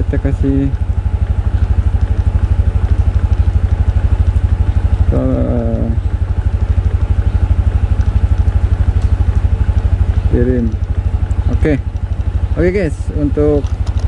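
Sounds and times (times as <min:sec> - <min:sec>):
motorbike engine idling: 0:00.0 - 0:14.0.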